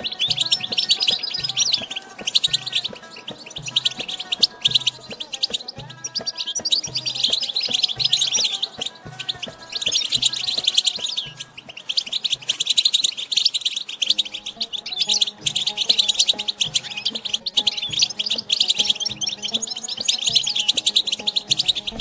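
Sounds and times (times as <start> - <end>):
goldfinches twittering song: 0.0 - 22.0
soft background music: 0.0 - 22.0.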